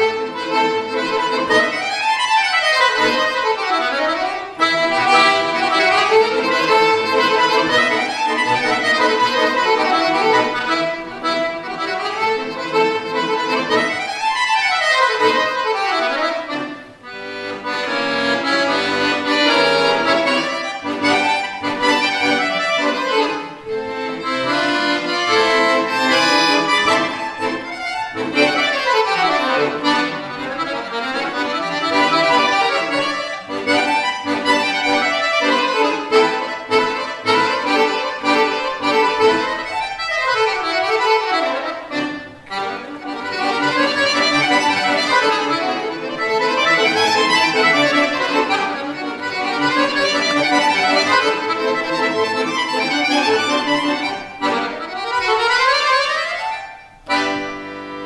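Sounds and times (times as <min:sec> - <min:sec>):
button accordion playing fast: 0:00.0 - 0:58.0.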